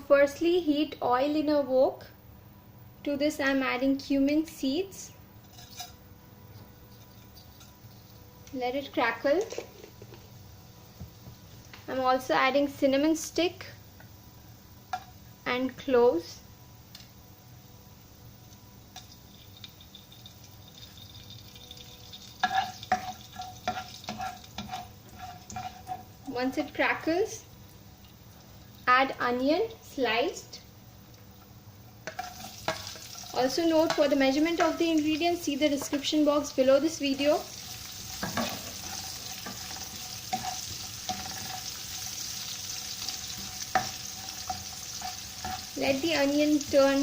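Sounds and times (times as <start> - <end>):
spices sizzling in hot oil: 3.4 - 47.0.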